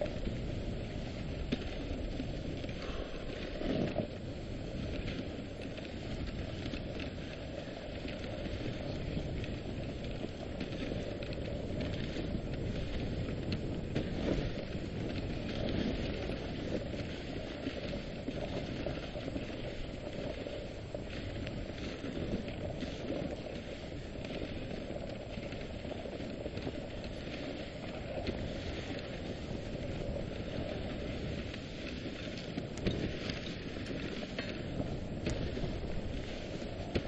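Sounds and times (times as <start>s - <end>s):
sled bumps: 0.0s - 37.0s
sled runners scraping over snow: 0.0s - 37.0s.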